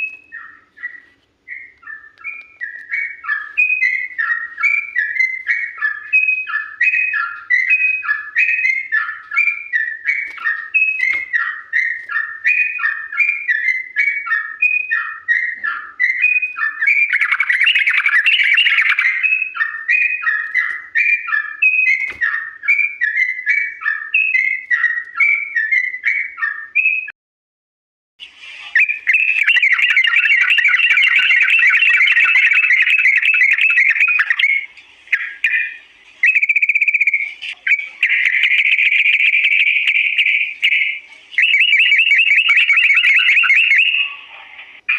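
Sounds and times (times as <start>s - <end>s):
bird chattering notes: 0.0s - 26.6s, 28.8s - 44.9s
bird fast trill: 0.0s - 27.1s, 28.8s - 44.9s.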